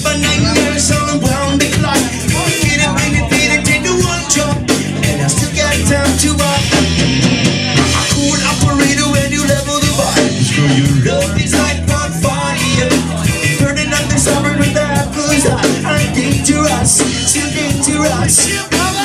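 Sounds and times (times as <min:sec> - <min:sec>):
bass guitar: 0:00.0 - 0:19.0
drum kit: 0:00.0 - 0:19.0
person singing lead vocal: 0:00.0 - 0:19.0.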